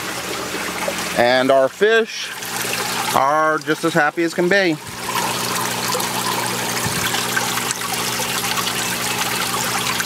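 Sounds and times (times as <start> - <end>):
water trickling into fish tank: 0.0 - 10.0.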